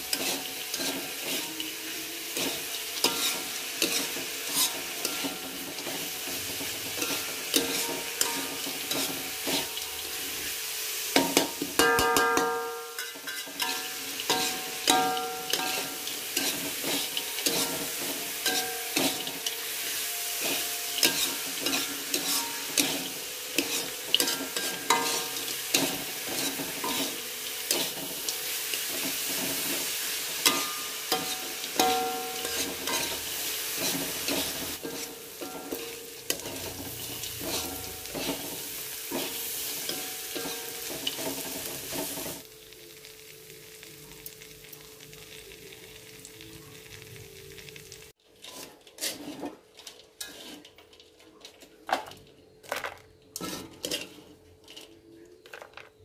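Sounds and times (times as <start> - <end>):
metal spatula scraping a wok: 0.0 - 42.4, 48.3 - 51.6, 53.4 - 55.9
food sizzling: 0.0 - 51.2.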